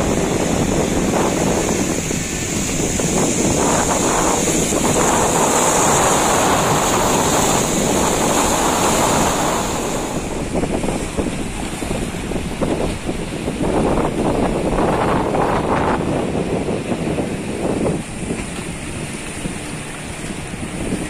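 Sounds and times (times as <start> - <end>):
rough sea waves rushing: 0.0 - 21.0
strong wind buffeting microphone: 0.0 - 21.0.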